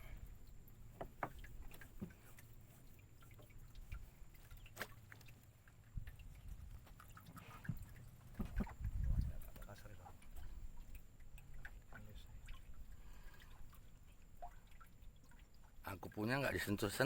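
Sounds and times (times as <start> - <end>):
water dripping and lapping: 0.0 - 17.0.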